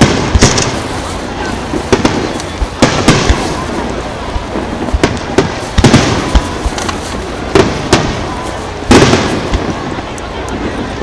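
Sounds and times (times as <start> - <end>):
firework shells bursting with echo: 0.0 - 10.7.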